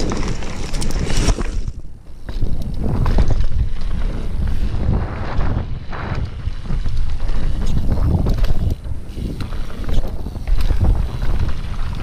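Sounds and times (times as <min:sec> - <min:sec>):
bike tyre and trail noise: 0:00.0 - 0:12.0
wind buffeting microphone: 0:01.6 - 0:12.0.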